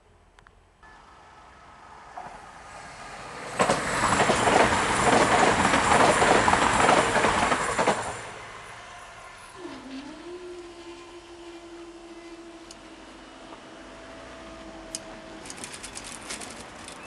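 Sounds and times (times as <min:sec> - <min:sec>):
train passing at speed: 0:00.8 - 0:17.0
wheels rushing on rail: 0:00.8 - 0:17.0.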